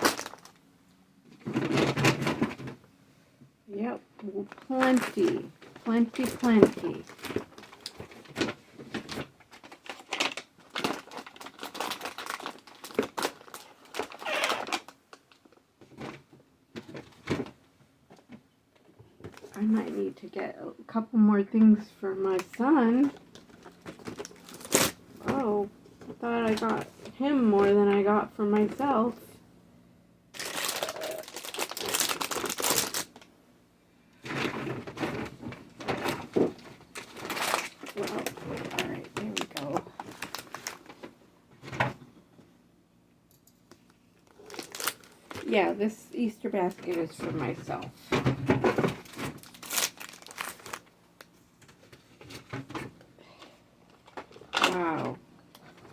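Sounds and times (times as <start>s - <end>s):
packaging rustling and crinkling: 0.0s - 0.6s, 4.2s - 20.0s, 22.3s - 28.9s, 30.3s - 33.3s, 34.2s - 42.0s, 43.7s - 45.8s, 46.6s - 55.9s.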